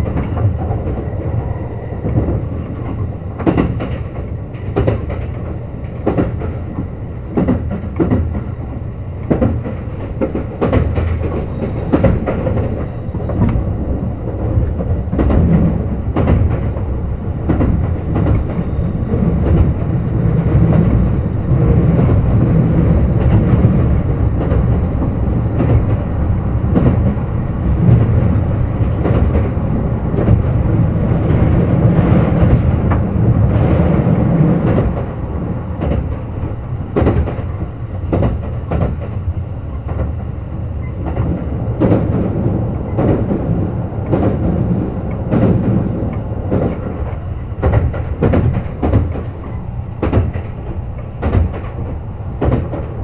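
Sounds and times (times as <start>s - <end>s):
train wheels rumbling: 0.0s - 53.0s
wheels clacking over rail joints: 0.0s - 53.0s.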